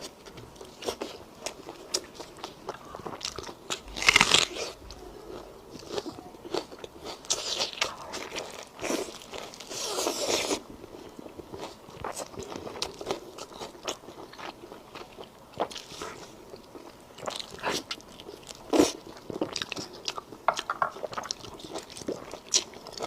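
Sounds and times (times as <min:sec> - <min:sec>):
person crunching and chewing: 0:00.0 - 0:23.0.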